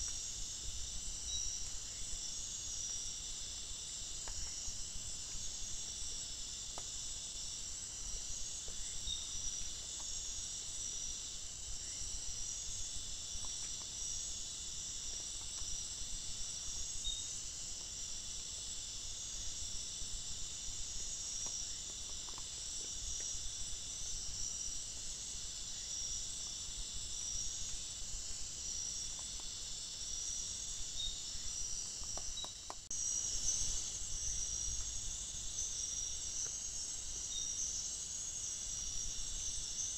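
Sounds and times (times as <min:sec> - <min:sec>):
crickets and night insects chirping: 0:00.0 - 0:39.9.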